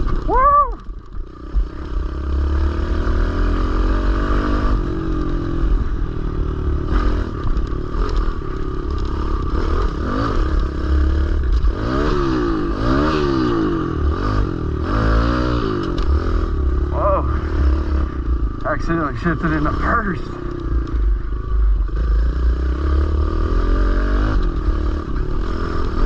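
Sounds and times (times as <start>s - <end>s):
small motorbike engine revving: 0.0s - 20.6s, 21.9s - 26.0s.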